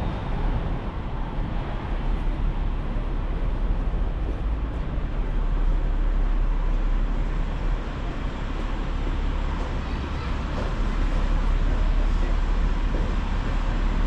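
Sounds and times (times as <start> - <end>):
city road traffic: 0.0 - 14.0.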